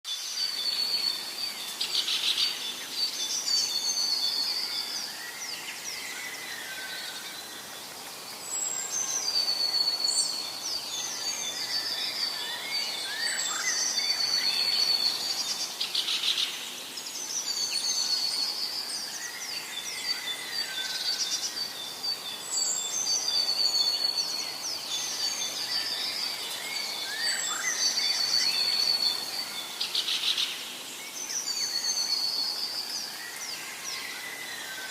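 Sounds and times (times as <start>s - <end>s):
forest birds singing: 0.1s - 34.9s
steady background hiss: 0.1s - 34.9s.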